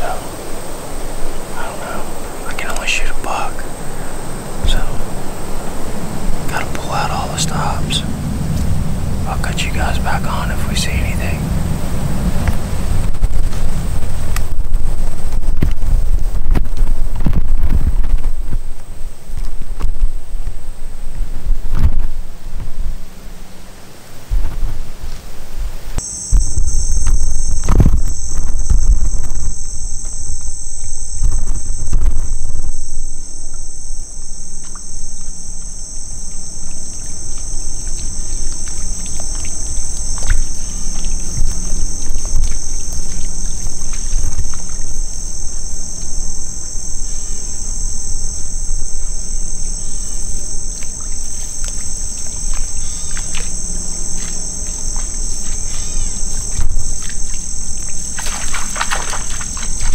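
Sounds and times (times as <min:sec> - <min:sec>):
insects shrilling: 0:00.0 - 0:19.3, 0:24.9 - 0:59.9
low rumble on microphone: 0:00.0 - 0:59.9.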